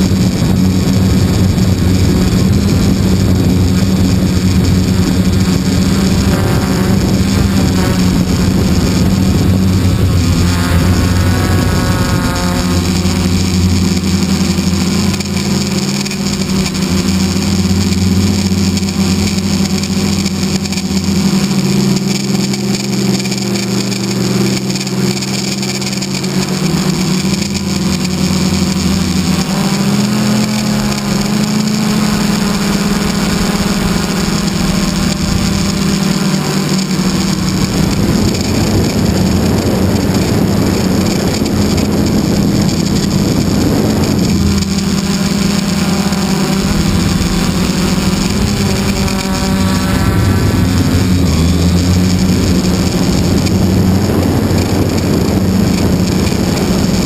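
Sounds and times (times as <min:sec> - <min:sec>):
model airplane engine droning: 0:00.0 - 0:57.0
wind rush: 0:00.0 - 0:57.0.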